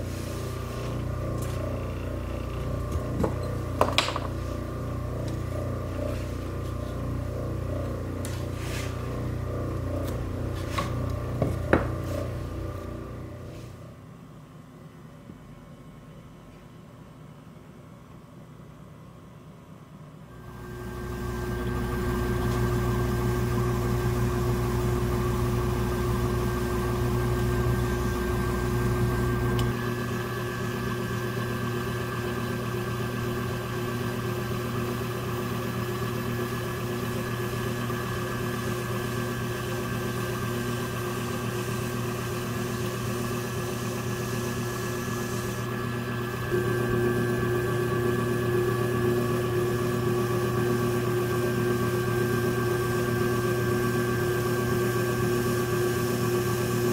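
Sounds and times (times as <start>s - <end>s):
potter's wheel motor hum: 0.0s - 14.0s, 20.3s - 56.9s.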